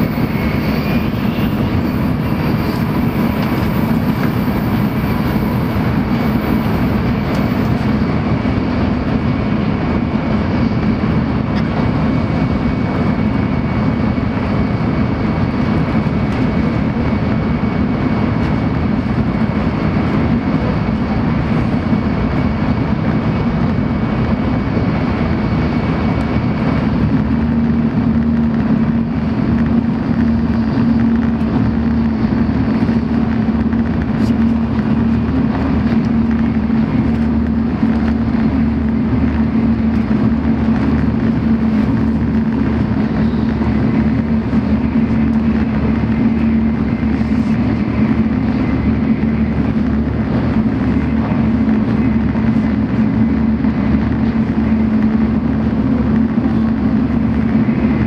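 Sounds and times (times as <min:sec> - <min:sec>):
low hum: 0:00.0 - 0:58.0
train cabin rumble: 0:00.0 - 0:58.0.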